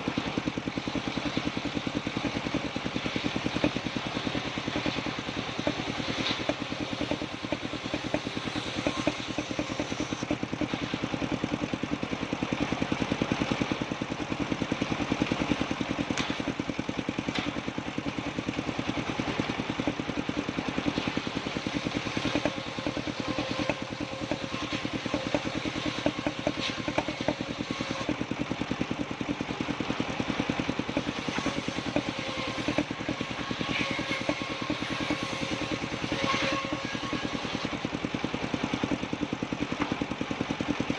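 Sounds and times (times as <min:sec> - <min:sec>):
sawmill motor pulsing: 0:00.0 - 0:40.9.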